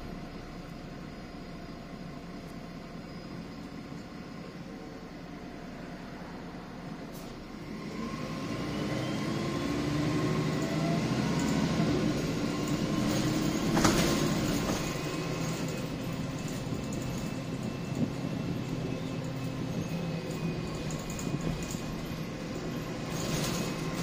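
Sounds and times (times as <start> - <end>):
bus diesel engine pulling hard: 0.0 - 24.0.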